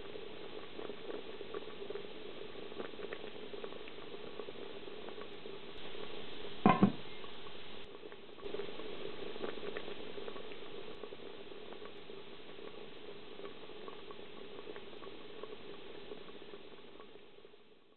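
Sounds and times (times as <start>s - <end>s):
beans simmering in a pot: 0.0s - 17.9s.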